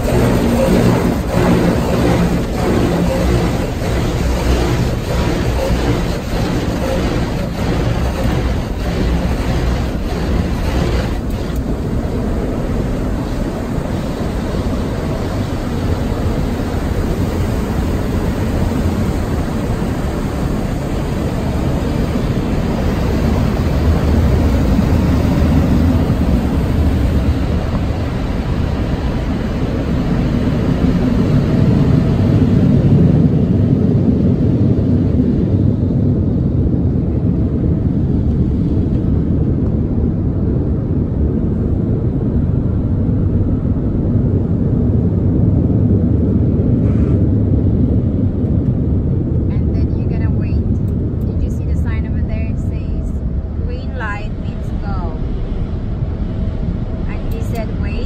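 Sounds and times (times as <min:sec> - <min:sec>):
car wash water spray and machinery: 0:00.0 - 0:46.8.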